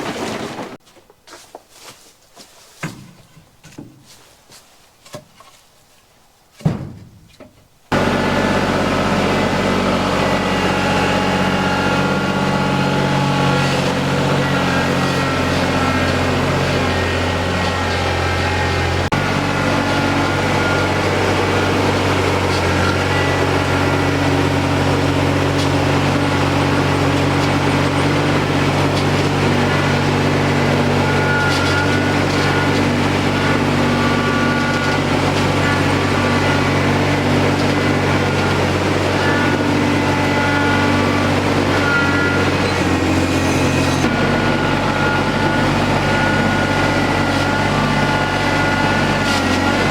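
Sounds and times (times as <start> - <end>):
tractor engine running: 7.9 - 49.9.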